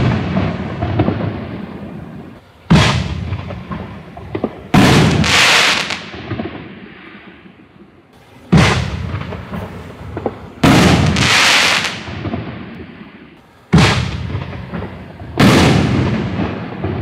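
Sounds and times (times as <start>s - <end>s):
firework hiss: 0.0s - 17.0s.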